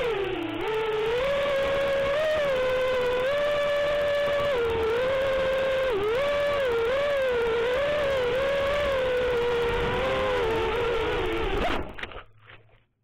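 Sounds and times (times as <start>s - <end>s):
drone knocking on landing: 0.0s - 11.9s
drone motors whining: 0.0s - 12.2s.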